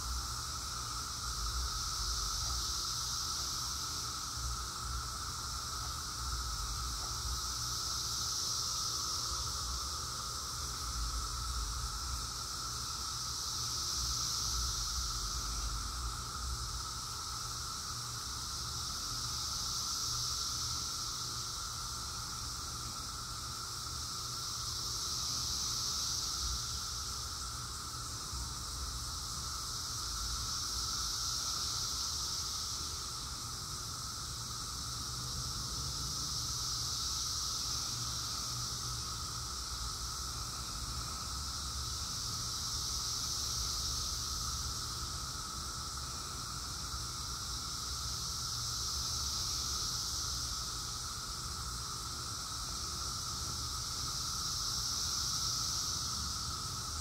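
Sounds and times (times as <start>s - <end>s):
cicadas calling: 0.0s - 57.0s.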